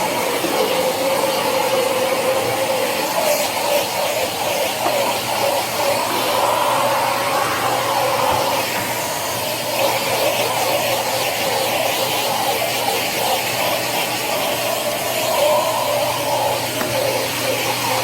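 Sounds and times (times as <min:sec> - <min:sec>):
polishing machine on marble: 0:00.0 - 0:18.0.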